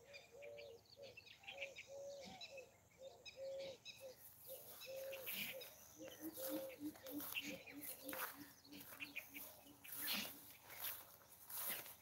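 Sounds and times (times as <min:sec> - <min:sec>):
low bird cooing: 0:00.0 - 0:10.9.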